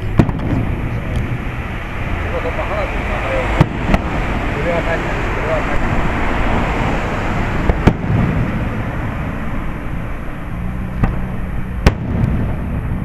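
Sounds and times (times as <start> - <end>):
fireworks bangs: 0.0 - 6.6, 7.2 - 13.0
steady background noise: 0.0 - 13.0.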